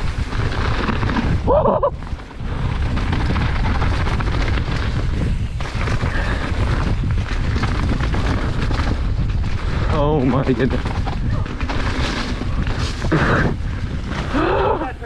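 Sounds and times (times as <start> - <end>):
bike knocks and rattles: 0.0 - 14.6
tyres rumbling on dirt: 0.0 - 15.0
wind buffeting microphone: 0.0 - 15.0.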